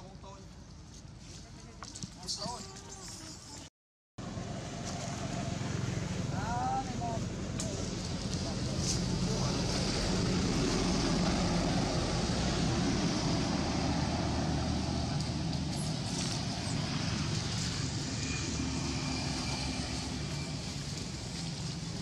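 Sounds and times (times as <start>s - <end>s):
distant engine drone: 4.2s - 22.0s.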